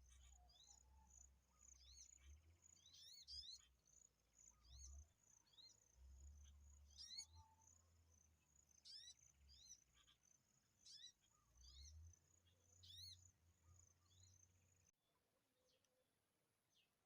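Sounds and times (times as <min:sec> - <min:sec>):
small bird chirping: 0:00.0 - 0:14.9.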